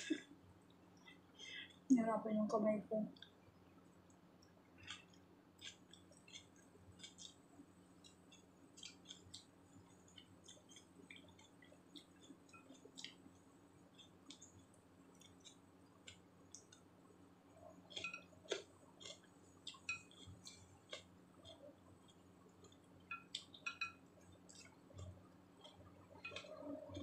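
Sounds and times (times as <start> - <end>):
chewing raw vegetables: 4.8 - 27.0.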